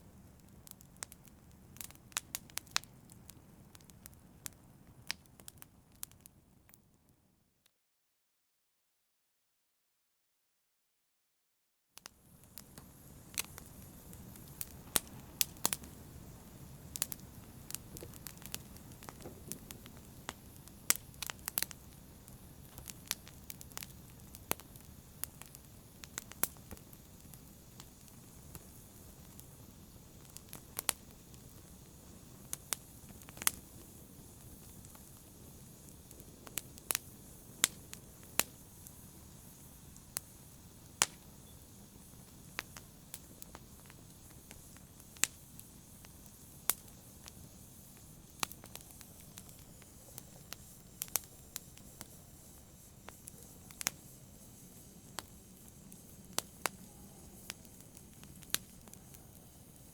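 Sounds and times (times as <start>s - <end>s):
rumble of flame: 0.0s - 6.8s, 12.0s - 59.9s
fire crackling and popping: 0.0s - 7.2s, 12.0s - 59.9s.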